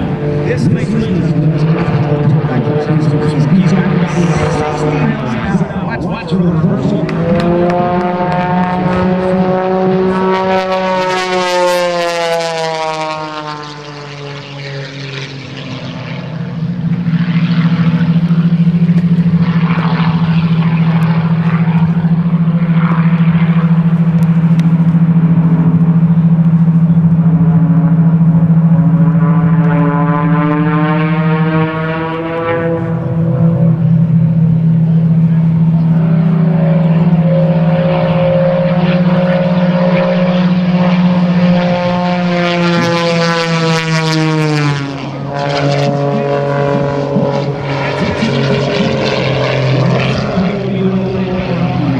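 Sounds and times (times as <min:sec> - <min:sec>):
airplane engine buzzing drone: 0:00.0 - 0:51.9.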